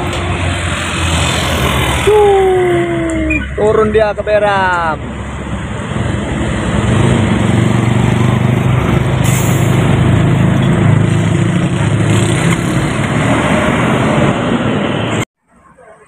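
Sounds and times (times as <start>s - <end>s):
diesel truck engines droning: 0.0s - 16.0s
tyre and road noise: 0.0s - 16.0s.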